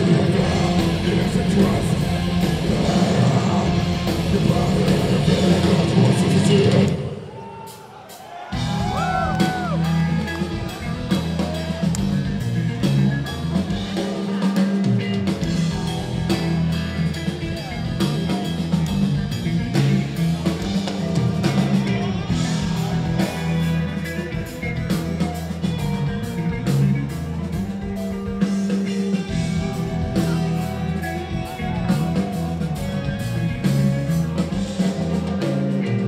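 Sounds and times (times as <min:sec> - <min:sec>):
metal band playing live: 0:00.0 - 0:36.0.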